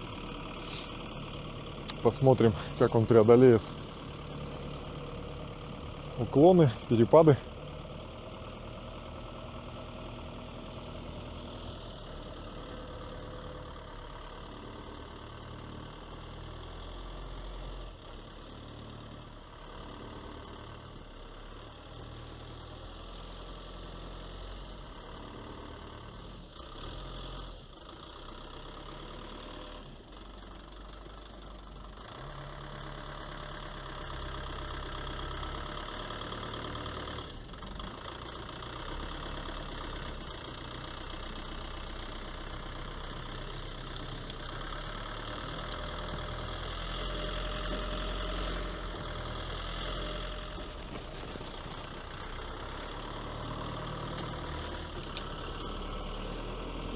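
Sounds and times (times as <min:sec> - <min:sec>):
diesel engine under varying load: 0:00.0 - 0:56.9.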